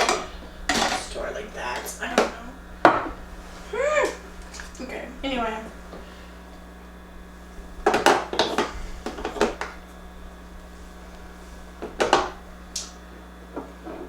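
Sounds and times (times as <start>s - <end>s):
bottles and jars clattering: 0.0s - 3.3s, 4.1s - 12.6s.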